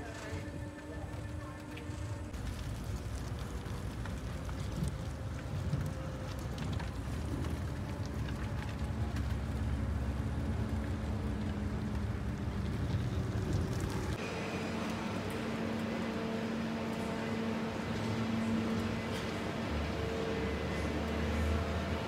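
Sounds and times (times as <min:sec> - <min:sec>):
factory machinery hum: 0:00.0 - 0:22.0
low outdoor rumble: 0:00.0 - 0:22.0.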